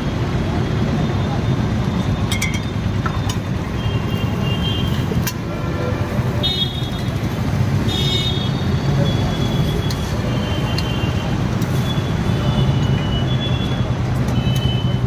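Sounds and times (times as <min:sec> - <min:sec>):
street traffic passing: 0:00.0 - 0:15.0.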